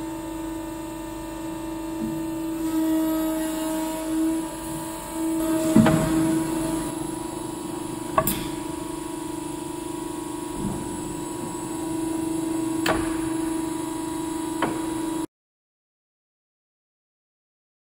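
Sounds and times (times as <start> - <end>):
machine humming: 0.0 - 15.3.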